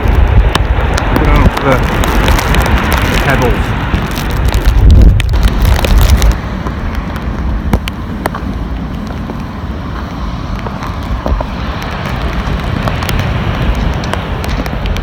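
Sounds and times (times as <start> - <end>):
wind and surf rushing: 0.0 - 15.0
wind buffeting microphone: 0.0 - 15.0.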